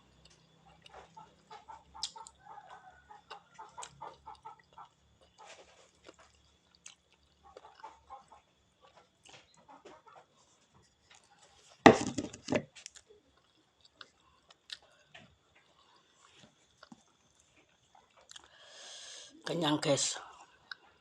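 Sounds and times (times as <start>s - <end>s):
faint chewing: 0.0s - 11.8s, 12.7s - 19.2s, 20.2s - 21.0s.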